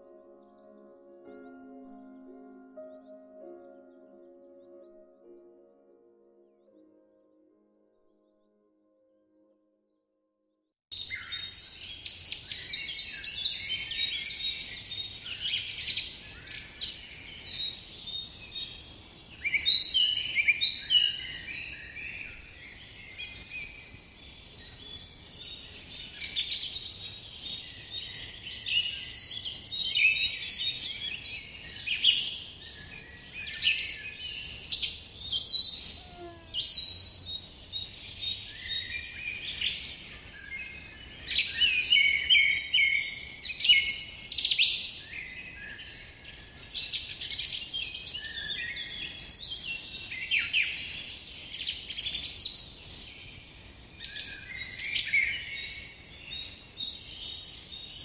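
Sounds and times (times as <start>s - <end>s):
birds chirping and trilling: 0.0s - 7.4s, 10.9s - 58.0s.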